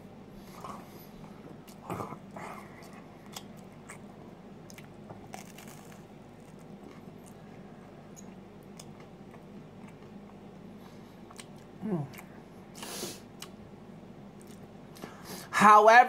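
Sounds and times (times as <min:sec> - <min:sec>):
crunching and chewing pizza: 0:00.4 - 0:15.2.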